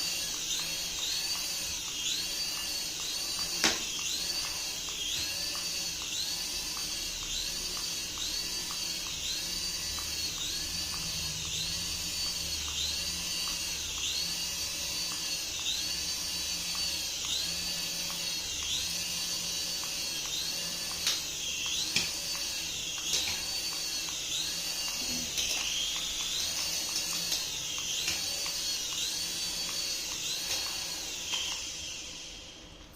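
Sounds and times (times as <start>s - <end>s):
toy motor whining: 0.0s - 32.7s.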